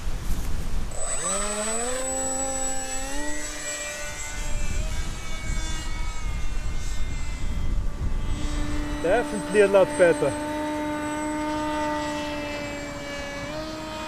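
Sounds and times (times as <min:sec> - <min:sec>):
electric motor propeller whine: 0:00.0 - 0:14.0.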